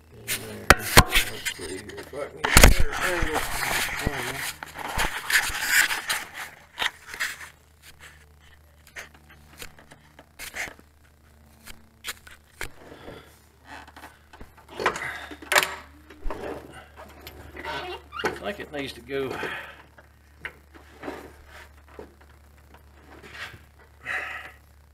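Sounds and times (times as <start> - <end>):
faint low hum: 0.0 - 24.9.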